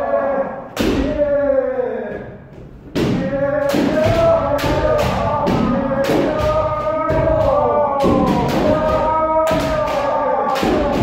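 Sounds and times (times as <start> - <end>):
people shouting sustained shouts: 0.0 - 2.3, 3.2 - 11.0.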